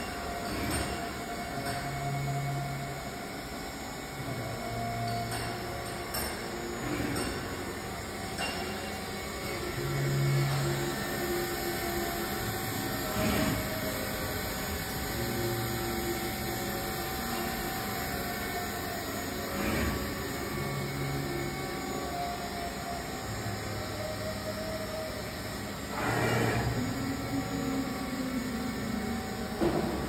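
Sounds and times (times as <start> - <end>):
machine mechanical hum: 0.0 - 30.0.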